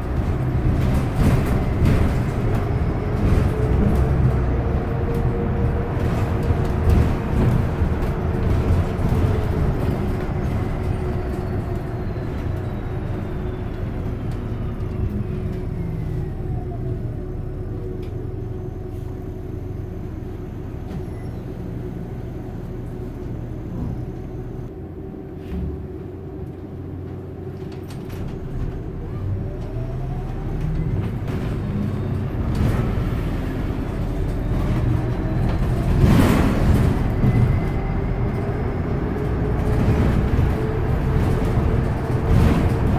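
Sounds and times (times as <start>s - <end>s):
bus whine changing pitch: 0.0s - 27.8s, 28.8s - 42.9s
bus drivetrain hum and road rumble: 0.0s - 42.9s.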